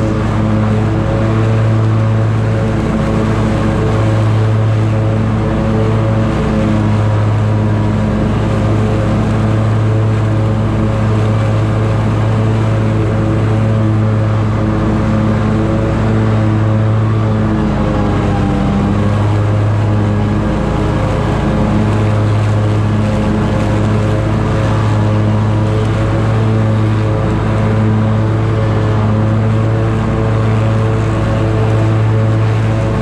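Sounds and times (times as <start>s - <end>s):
lawn mower engine cutting grass: 0.0s - 33.0s.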